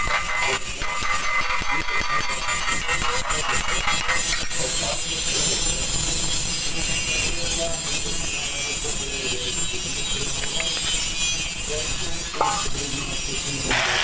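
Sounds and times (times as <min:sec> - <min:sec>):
welding arc crackling hiss: 0:00.1 - 0:14.0.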